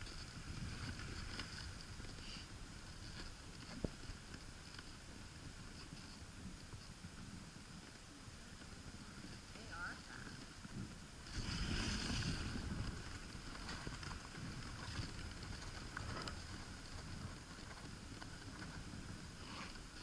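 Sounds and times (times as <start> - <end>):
sled runners hissing on snow: 0.0 - 8.0, 8.6 - 20.0
wind on microphone: 0.0 - 20.0.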